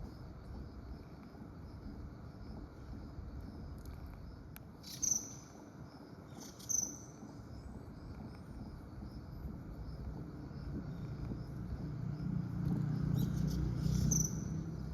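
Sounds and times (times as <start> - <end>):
insects droning: 0.0 - 14.9.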